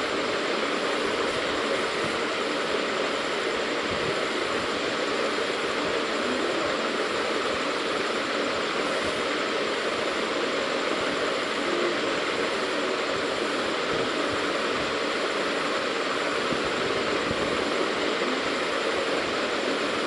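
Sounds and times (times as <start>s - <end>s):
background rushing noise: 0.0s - 20.0s.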